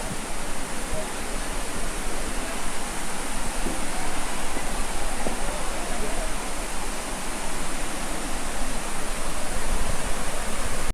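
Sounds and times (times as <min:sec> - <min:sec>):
floodwater rushing: 0:00.0 - 0:10.9.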